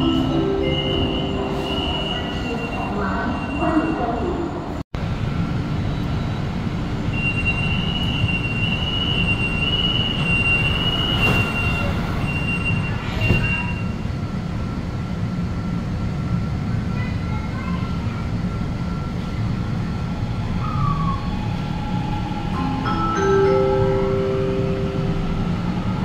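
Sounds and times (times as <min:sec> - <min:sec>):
metro train rumble: 0:00.0 - 0:26.0.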